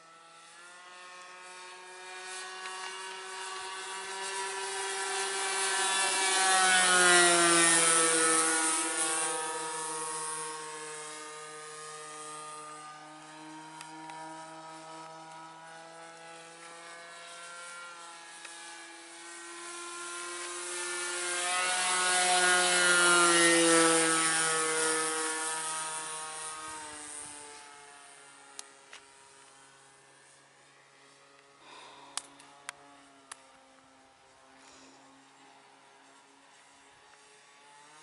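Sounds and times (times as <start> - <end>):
model airplane engine buzzing past: 0.0 - 38.0.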